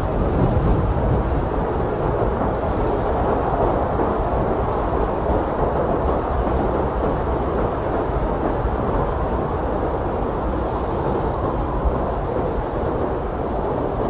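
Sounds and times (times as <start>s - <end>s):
strong blizzard wind: 0.0s - 14.0s.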